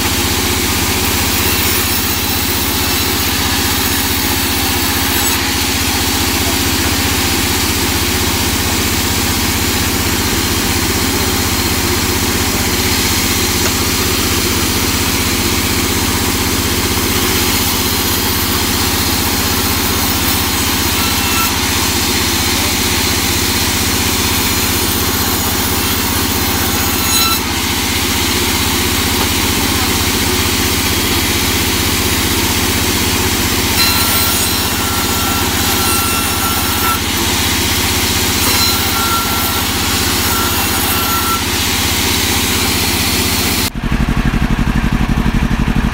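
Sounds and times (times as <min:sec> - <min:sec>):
saw blade cutting wood: 0:00.0 - 0:43.8
band saw motor hum: 0:00.0 - 0:45.9.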